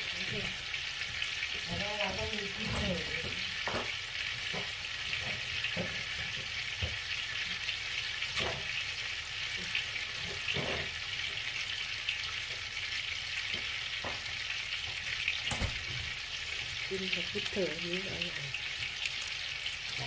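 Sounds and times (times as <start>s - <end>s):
steaks sizzling in a pan: 0.0s - 20.0s.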